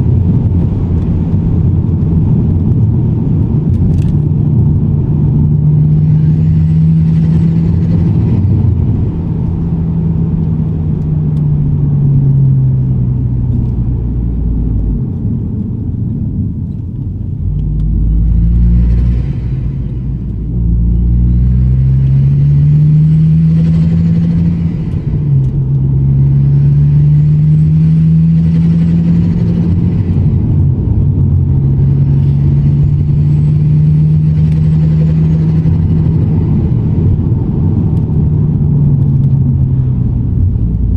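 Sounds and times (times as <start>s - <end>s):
car engine revving at low revs: 0.0s - 40.9s.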